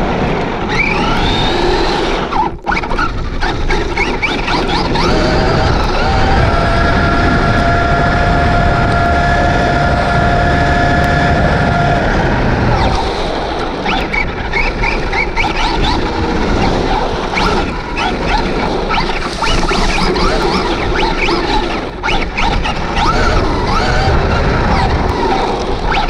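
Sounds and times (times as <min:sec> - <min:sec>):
electric motor whine: 0:00.0 - 0:26.0
road rumble: 0:00.0 - 0:26.0
wind noise: 0:00.0 - 0:26.0
tyre squeals and chirps: 0:00.7 - 0:26.0.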